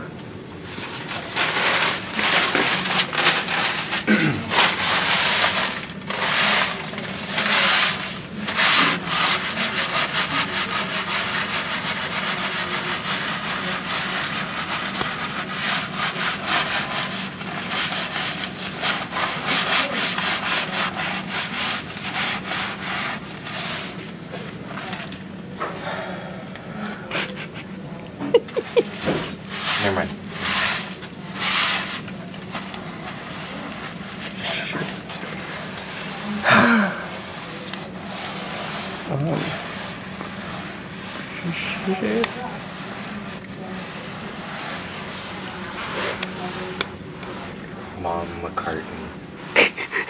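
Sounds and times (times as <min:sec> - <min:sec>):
paper towel scrubbing wall: 0:00.6 - 0:25.3, 0:27.1 - 0:50.0.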